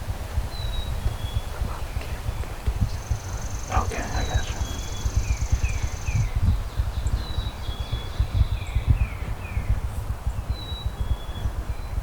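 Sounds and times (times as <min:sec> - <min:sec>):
songbirds calling: 0:00.0 - 0:12.0
wind buffeting the microphone: 0:00.0 - 0:12.0.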